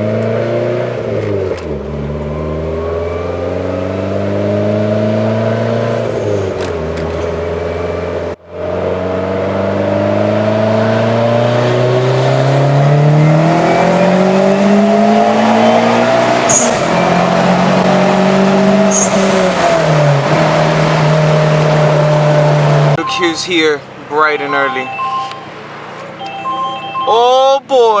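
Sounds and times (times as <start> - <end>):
car engine accelerating: 0.0 - 26.6.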